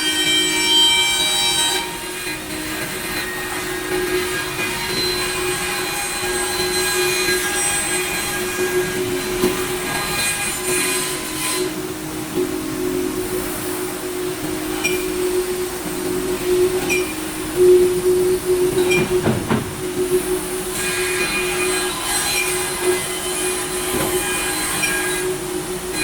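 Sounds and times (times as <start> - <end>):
machine spindles whining: 0.0 - 26.0.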